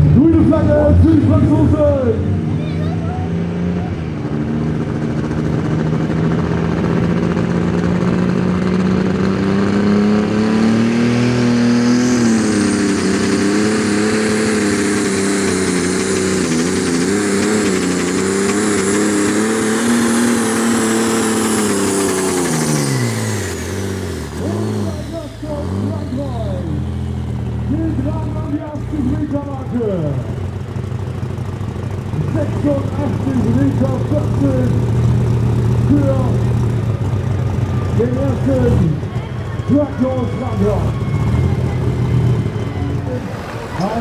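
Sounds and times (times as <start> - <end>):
tractor engine at full throttle: 0.0 - 44.0.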